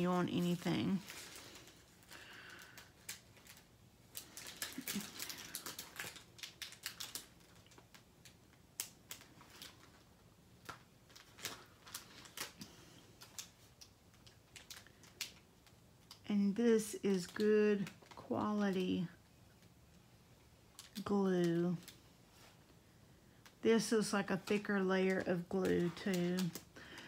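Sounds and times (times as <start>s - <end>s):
plastic film crackling: 0.0s - 20.0s, 20.6s - 27.0s.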